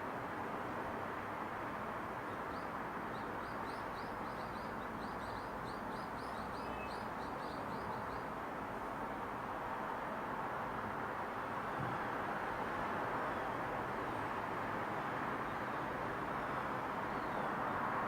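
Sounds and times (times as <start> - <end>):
rushing outdoor background noise: 0.0 - 18.0.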